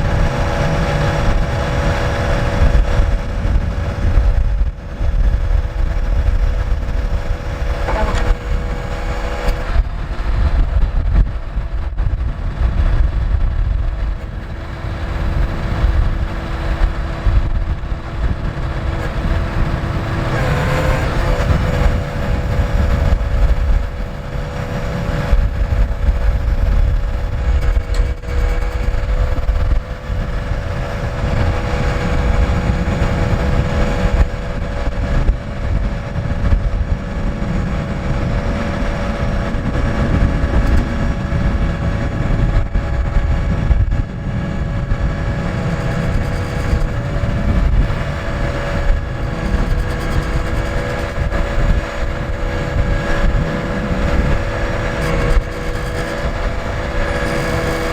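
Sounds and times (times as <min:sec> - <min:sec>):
diesel engine rumbling: 0:00.0 - 0:57.9
steady engine whine: 0:00.0 - 0:57.9.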